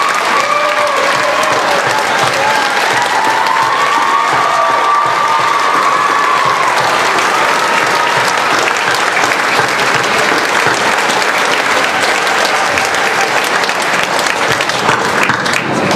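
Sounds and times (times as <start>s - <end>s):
audience applauding: 0.0s - 15.9s
scattered crowd voices: 0.0s - 15.9s.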